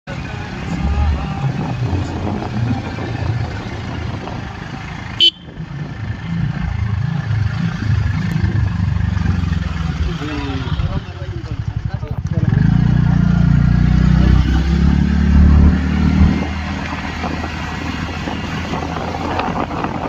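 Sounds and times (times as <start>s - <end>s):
low rumbling vehicle noise: 0.1s - 20.0s.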